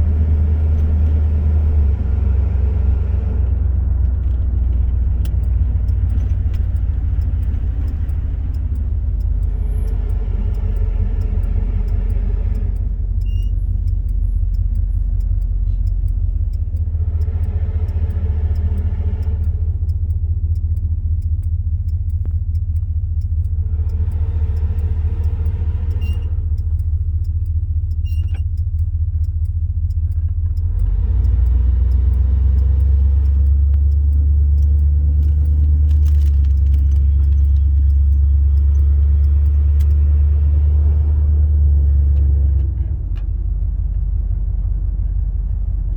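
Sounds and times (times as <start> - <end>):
car driving rumble: 0.0 - 45.9.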